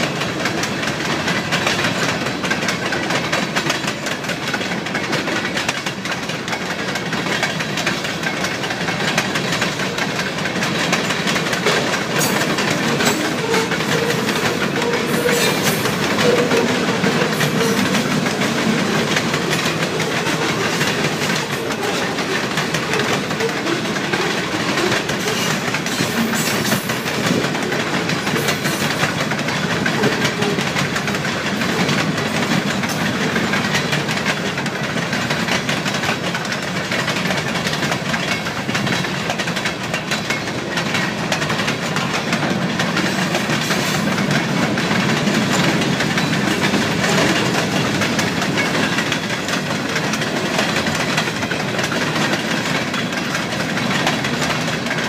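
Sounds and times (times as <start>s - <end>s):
clickety-clack over rail joints: 0.0s - 55.0s
train wheels rumbling on rail: 0.0s - 55.0s.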